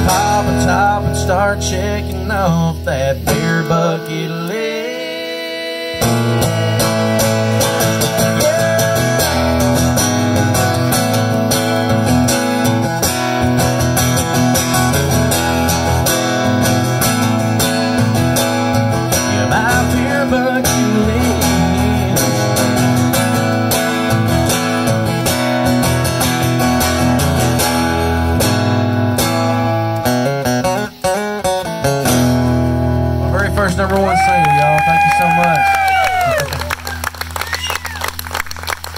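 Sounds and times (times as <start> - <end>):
country band instrumental: 0.0 - 38.9.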